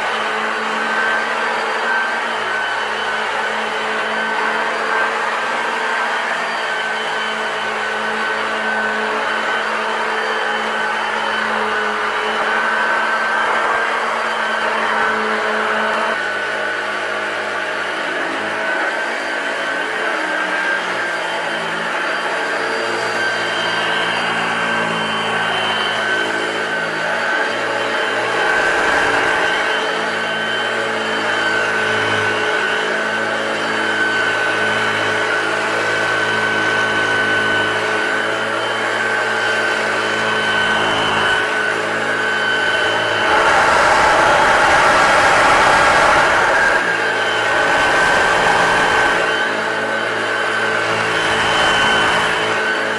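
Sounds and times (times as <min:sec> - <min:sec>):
vacuum cleaner motor whining: 0:00.0 - 0:52.9.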